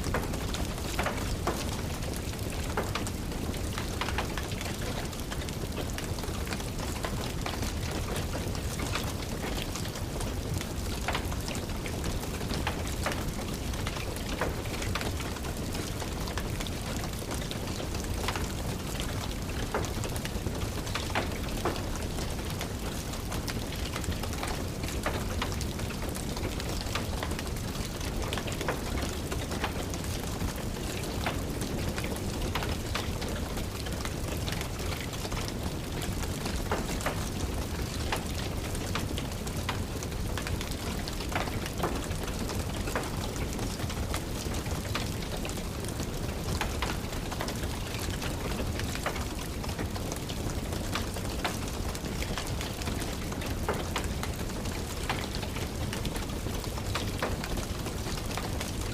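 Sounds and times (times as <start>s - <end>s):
steady rain: 0.0s - 58.9s
wood fire crackling and popping: 0.1s - 58.9s.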